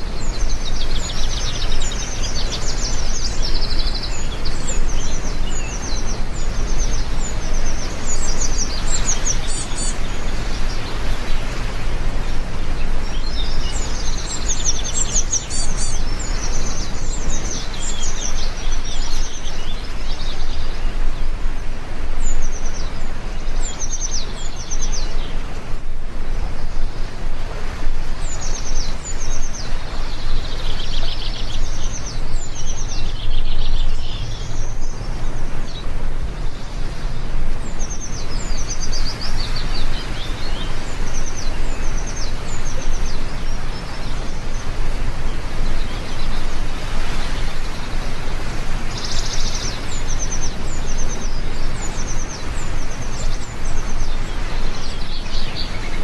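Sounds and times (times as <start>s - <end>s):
birds chirping: 0.0s - 25.9s, 26.5s - 56.0s.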